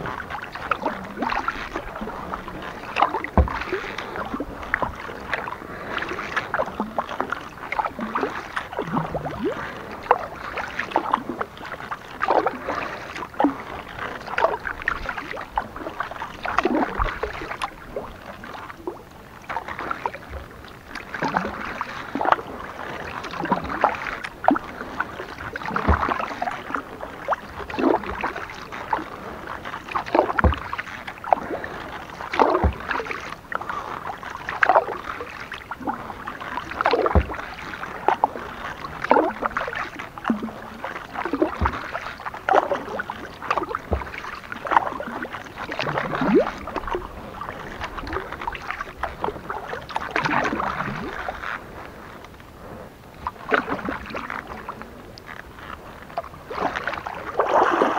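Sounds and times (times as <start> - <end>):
water dripping off paddle: 0.0 - 52.4, 53.2 - 57.9
paddle splashing in water: 0.0 - 57.9.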